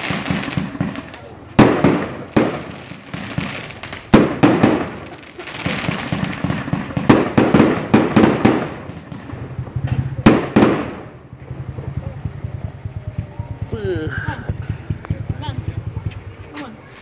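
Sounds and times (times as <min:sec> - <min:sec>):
fireworks bangs with crackle: 0:00.0 - 0:16.5.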